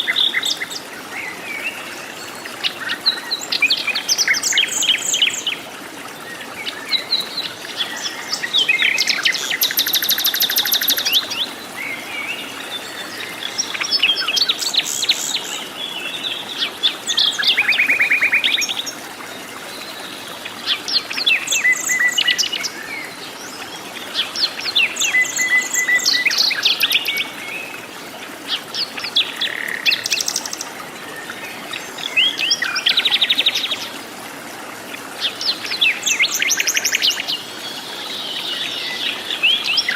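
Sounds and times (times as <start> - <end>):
forest birds calling and singing: 6.2 - 34.1, 34.8 - 39.9.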